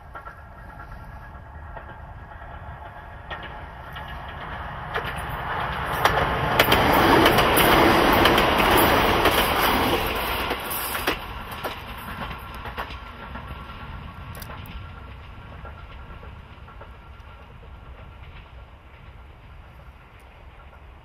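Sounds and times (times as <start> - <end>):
clacks over rail joints: 0.0 - 21.0
train wheels rumbling on rails: 0.0 - 21.0.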